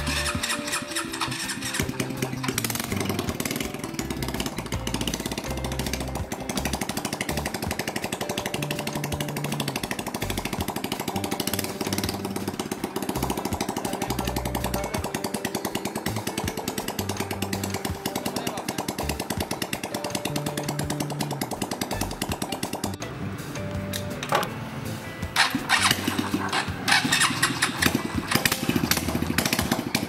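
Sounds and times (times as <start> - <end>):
background music: 0.0 - 30.0
motorcycle engine idling: 0.0 - 30.0.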